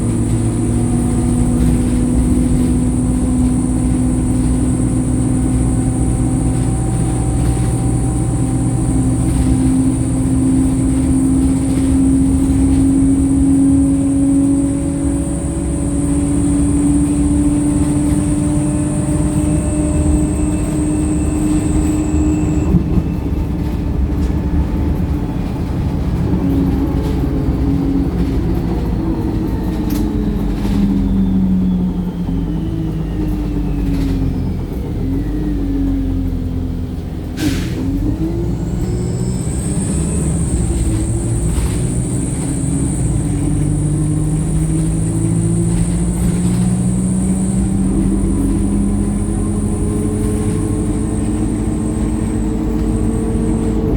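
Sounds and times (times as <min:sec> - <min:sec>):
bus diesel engine pulling: 0:00.0 - 0:53.9
low road rumble: 0:00.0 - 0:53.9.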